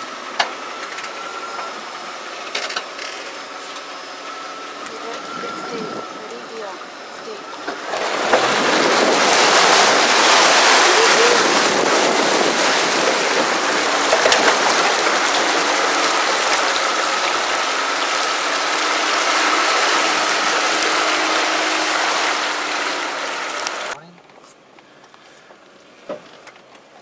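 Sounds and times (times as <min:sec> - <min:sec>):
water rushing and splashing: 0:00.0 - 0:02.5, 0:03.5 - 0:24.0.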